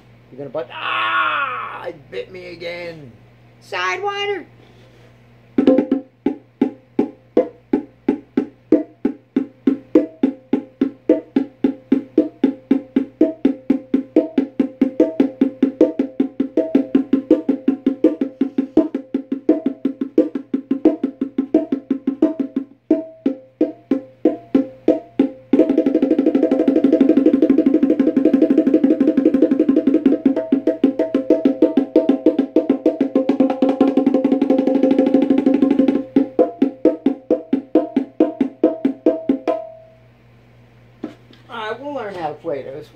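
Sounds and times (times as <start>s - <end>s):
bongos played by hand: 5.5s - 40.0s.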